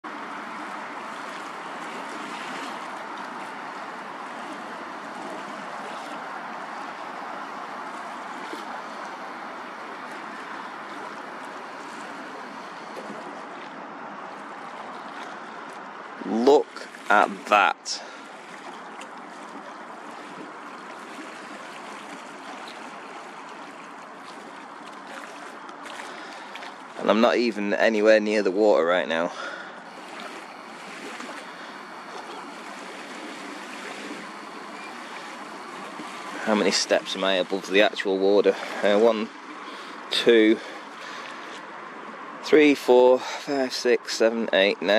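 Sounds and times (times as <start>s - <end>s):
waves washing on open water: 0.0s - 44.9s.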